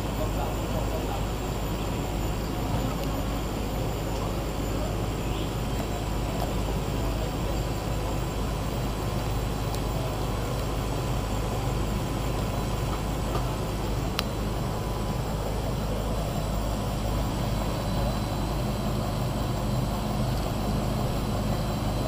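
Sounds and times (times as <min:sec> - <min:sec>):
bike trainer whirring: 0:00.0 - 0:22.0.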